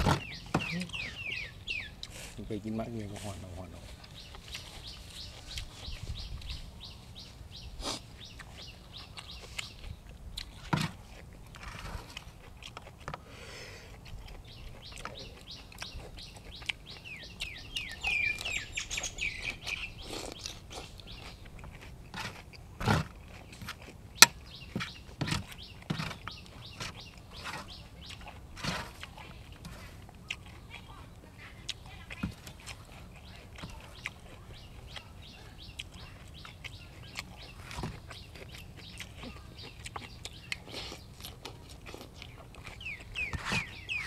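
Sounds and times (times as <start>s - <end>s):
birds chirping: 0.0s - 44.0s
person eating with crunches: 0.0s - 44.0s.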